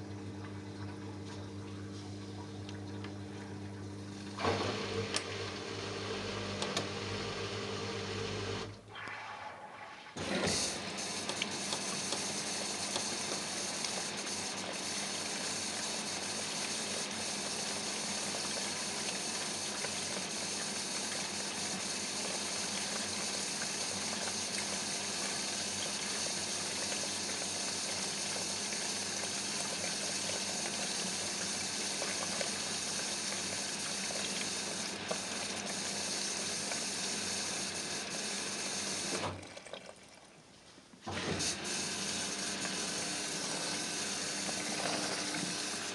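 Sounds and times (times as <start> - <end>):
washing machine filling with water: 0.0 - 9.1, 10.1 - 45.9.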